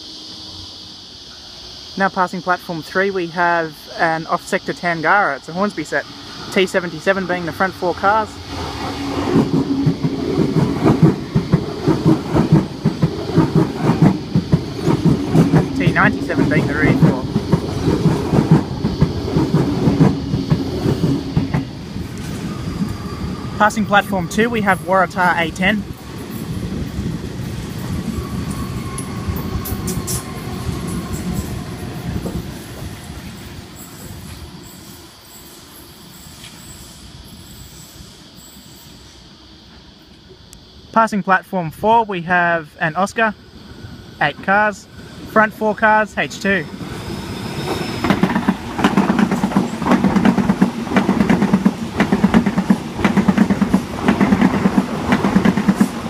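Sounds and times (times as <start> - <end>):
train wheels rumbling on rail: 3.6 - 40.7, 43.4 - 56.0.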